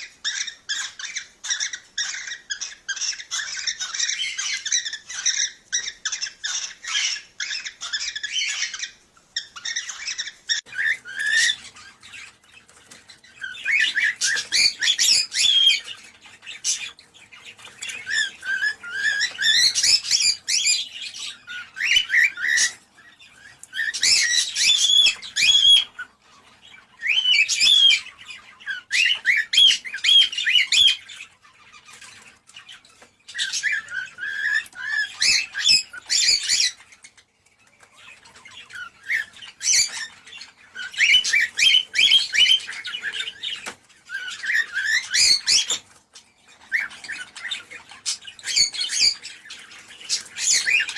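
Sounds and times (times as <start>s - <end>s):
cockatiels chirping and whistling: 0.0s - 50.9s.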